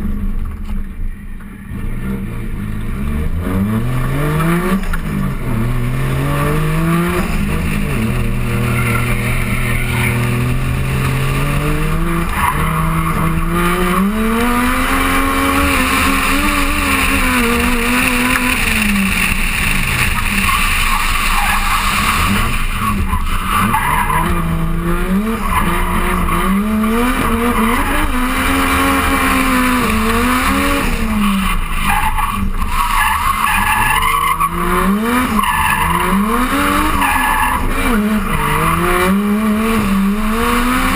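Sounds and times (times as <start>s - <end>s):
car engine revving: 0.0s - 40.9s
tyres squealing and skidding: 4.1s - 40.9s.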